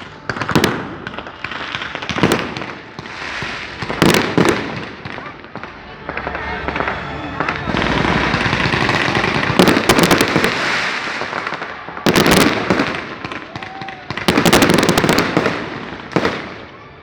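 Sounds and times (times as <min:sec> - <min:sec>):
firecrackers popping: 0:00.0 - 0:16.7.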